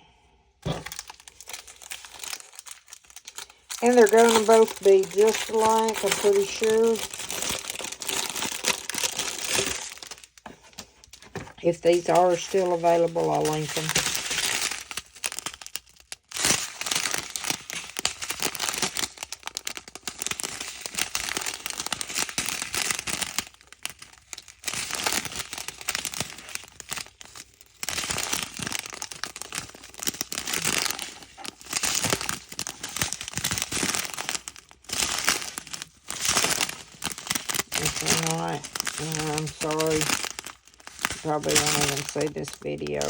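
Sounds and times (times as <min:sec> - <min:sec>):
plastic packaging crinkling: 0:00.6 - 0:43.0.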